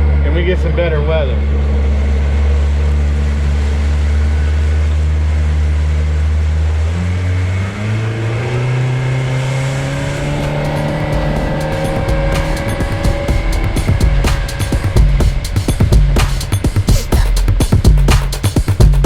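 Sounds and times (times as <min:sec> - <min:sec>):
outboard engine running: 0:00.0 - 0:19.0.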